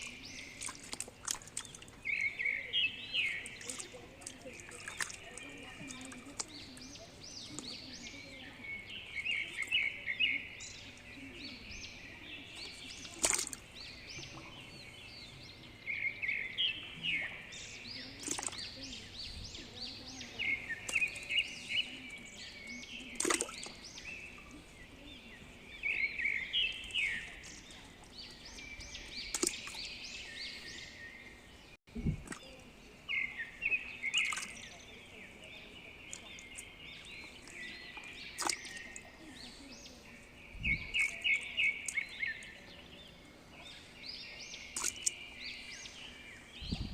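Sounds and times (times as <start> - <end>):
birds chirping: 0.0 - 46.9
outdoor background noise: 0.0 - 46.9.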